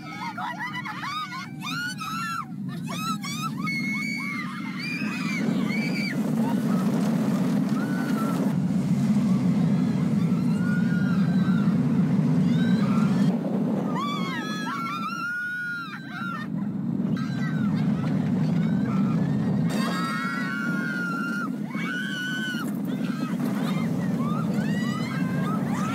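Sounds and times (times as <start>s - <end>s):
riders screaming: 0.0s - 8.6s, 9.8s - 25.9s
ride rumbling: 0.0s - 25.9s.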